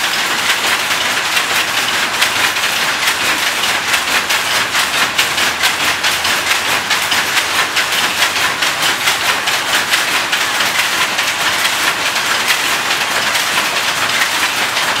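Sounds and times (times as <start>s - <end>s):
power loom clattering: 0.0s - 15.0s.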